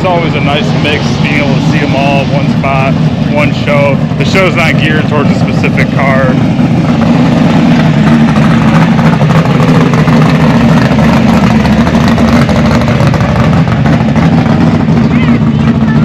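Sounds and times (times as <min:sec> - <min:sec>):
car engine and exhaust running: 0:00.0 - 0:16.0.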